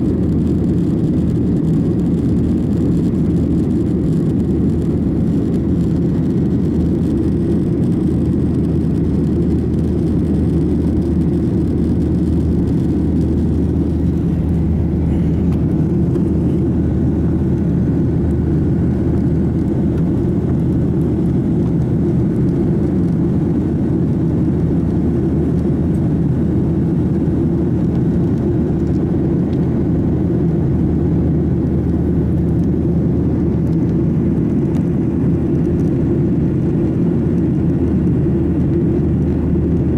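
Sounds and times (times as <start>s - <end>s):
airliner cabin engine drone: 0.0s - 39.9s.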